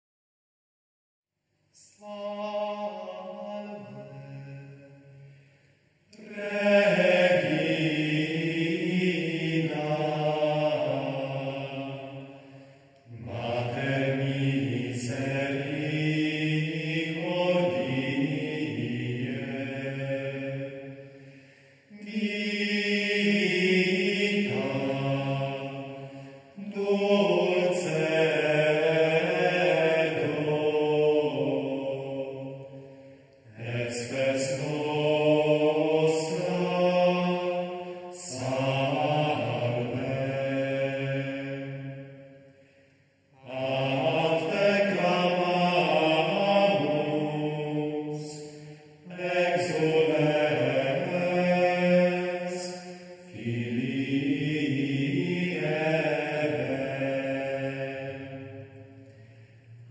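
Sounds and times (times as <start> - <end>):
slow religious chant singing: 1.6 - 59.9.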